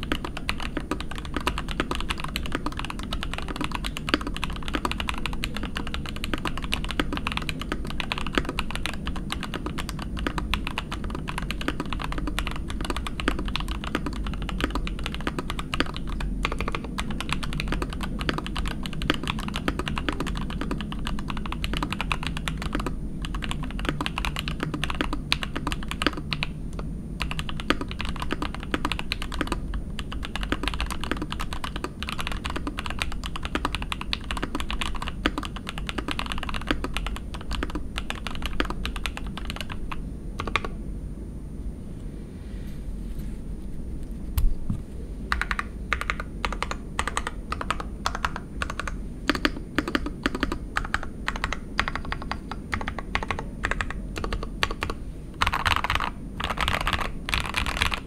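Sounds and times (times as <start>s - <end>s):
mechanical keyboard typing: 0.0s - 26.5s, 27.2s - 40.8s, 45.3s - 58.0s.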